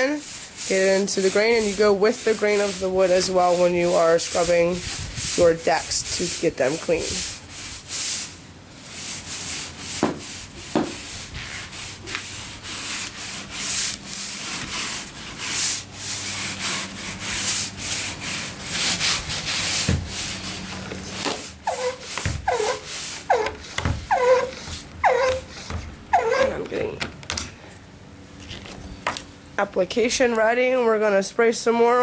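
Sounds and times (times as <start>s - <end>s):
stiff brush scrubbing wooden boards: 0.0s - 26.7s.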